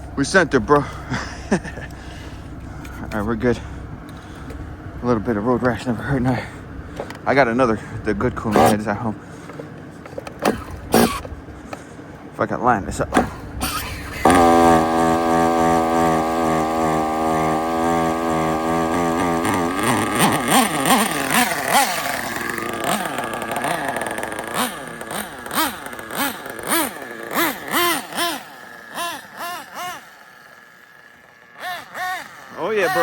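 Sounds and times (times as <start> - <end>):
nitro engine revving: 0.0 - 33.0.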